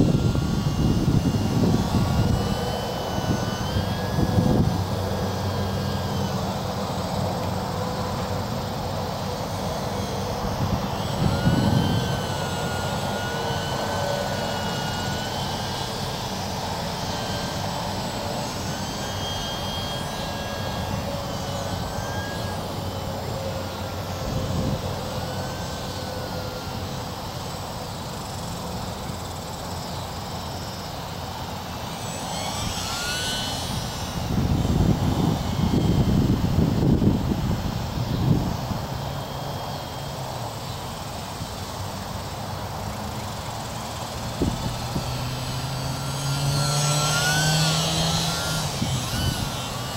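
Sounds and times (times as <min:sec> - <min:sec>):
model plane motor whine: 0:00.0 - 0:49.9.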